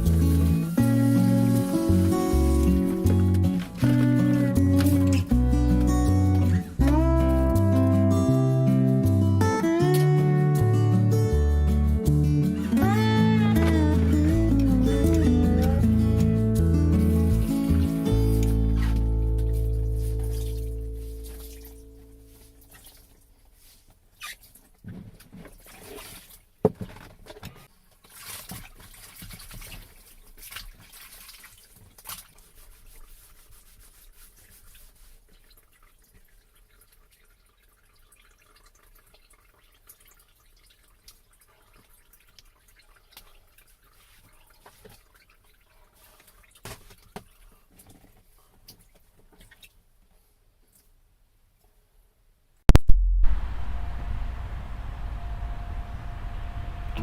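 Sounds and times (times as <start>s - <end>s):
water splashing and dripping: 0.0s - 26.6s, 27.9s - 49.8s.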